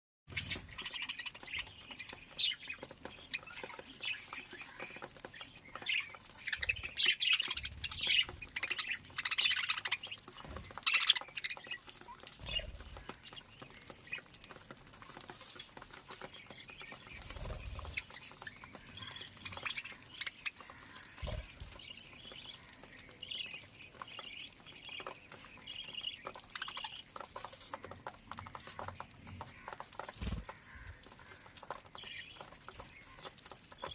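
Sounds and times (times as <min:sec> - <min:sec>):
birds squawking and chirping: 0:00.3 - 0:33.9
clicks and thumps of birds moving: 0:00.3 - 0:33.9.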